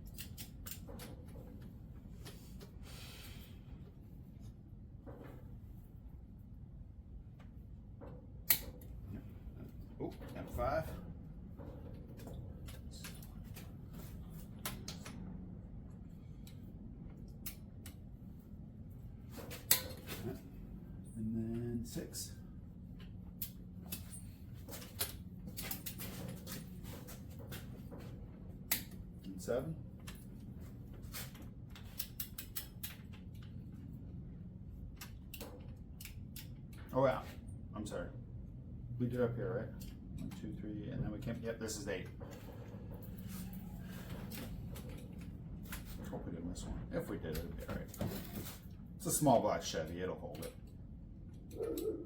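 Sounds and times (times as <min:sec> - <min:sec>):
low steady background noise: 0:00.0 - 0:52.0
low steady hum: 0:00.0 - 0:52.0.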